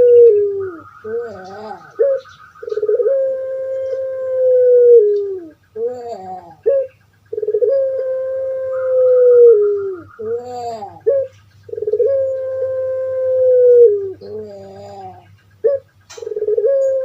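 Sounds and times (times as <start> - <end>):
dove cooing: 0.0 - 17.0
steady low hum: 0.0 - 17.0.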